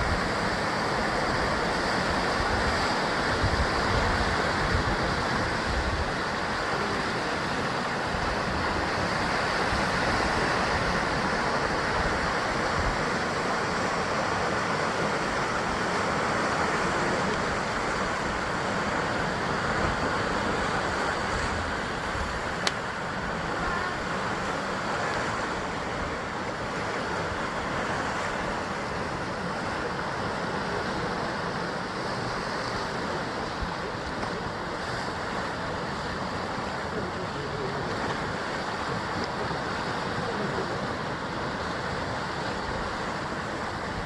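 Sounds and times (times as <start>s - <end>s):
waves washing against rocks: 0.0s - 44.0s.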